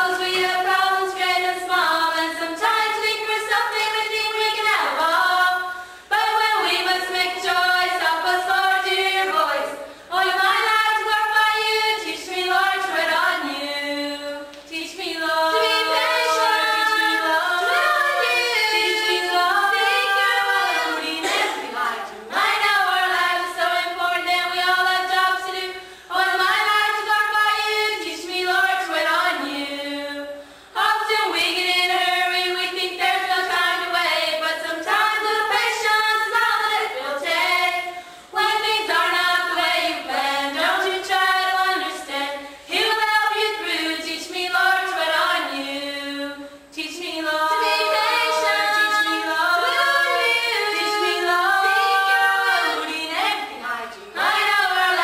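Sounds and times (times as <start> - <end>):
girls singing a cappella: 0.0 - 55.0.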